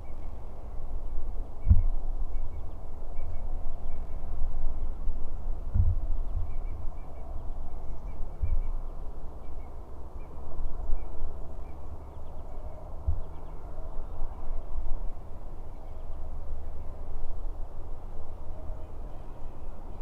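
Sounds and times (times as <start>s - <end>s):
wind buffeting microphone: 0.0s - 18.6s.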